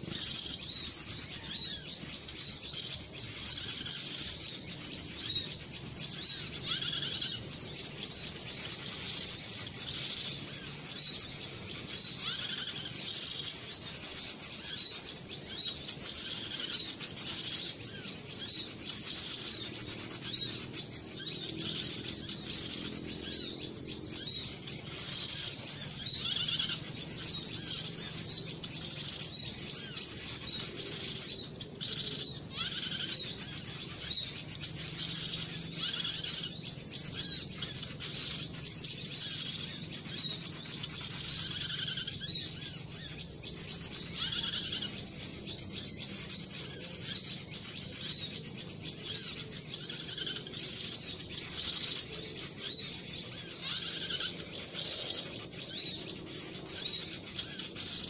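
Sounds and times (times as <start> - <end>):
chorus of small birds chirping: 0.0 - 58.0.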